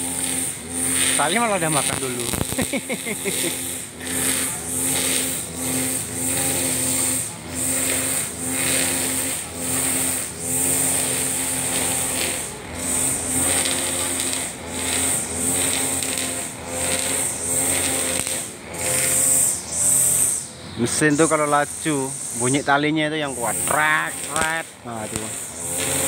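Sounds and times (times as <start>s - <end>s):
brush cutter engine running: 0.0s - 26.0s
nylon line whirring: 0.0s - 26.0s.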